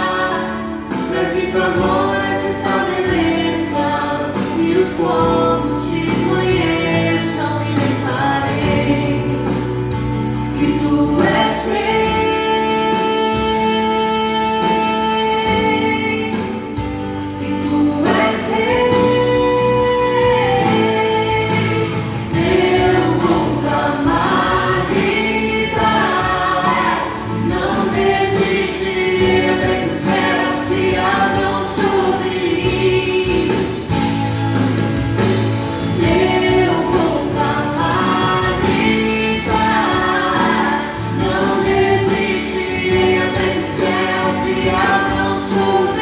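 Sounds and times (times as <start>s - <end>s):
instrumental backing: 0.0s - 46.0s
voices singing worship song: 0.0s - 46.0s.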